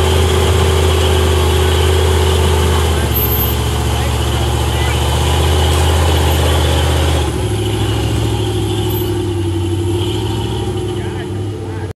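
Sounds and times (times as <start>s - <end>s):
engine running hard under load: 0.0s - 11.9s.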